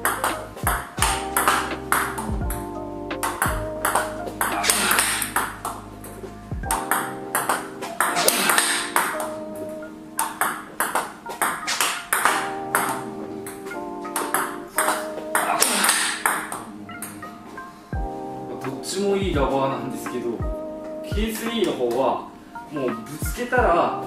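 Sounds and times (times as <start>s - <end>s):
background music: 0.0s - 24.0s.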